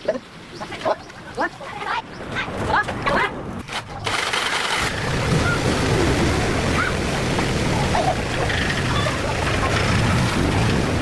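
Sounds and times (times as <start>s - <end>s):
steady rushing noise: 0.3s - 11.0s.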